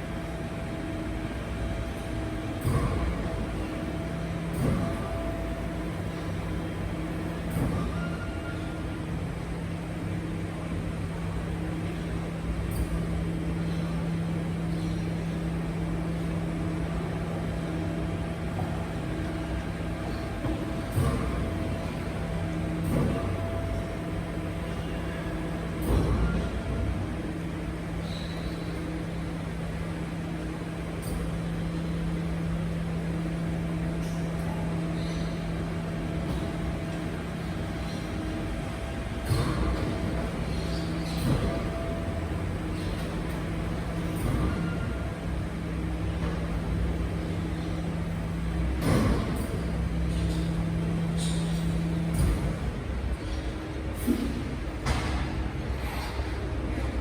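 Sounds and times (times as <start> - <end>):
garbage truck humming: 0.0 - 10.4, 11.0 - 54.5.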